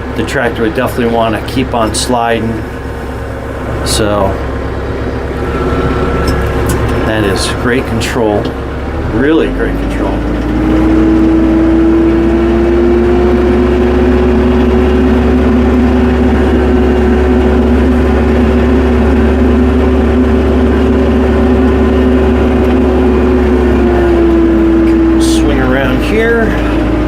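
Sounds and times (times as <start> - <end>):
tractor engine whining: 0.0 - 27.0.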